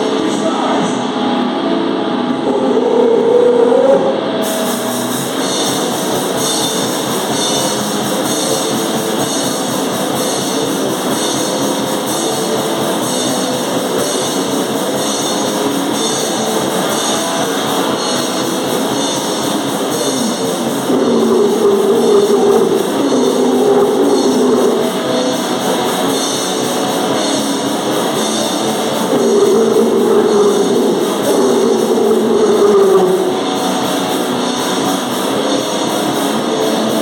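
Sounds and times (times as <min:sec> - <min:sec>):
distorted guitar: 0:00.0 - 0:37.0
very fast drumming: 0:05.2 - 0:37.0.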